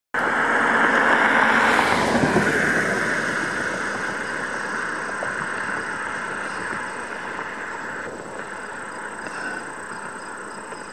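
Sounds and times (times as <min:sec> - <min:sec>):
vehicle tyre and road noise: 0:00.2 - 0:10.9.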